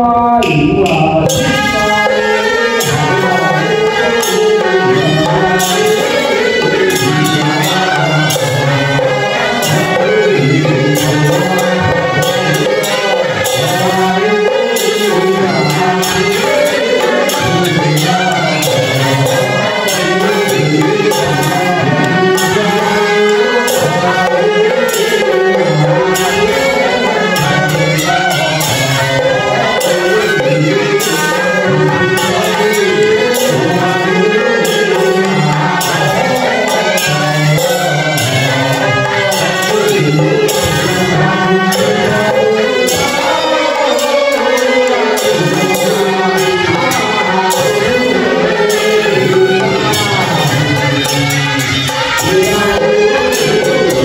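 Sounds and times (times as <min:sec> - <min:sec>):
percussion strikes: 0:00.0 - 0:54.0
wavering ritual melody: 0:00.0 - 0:54.0.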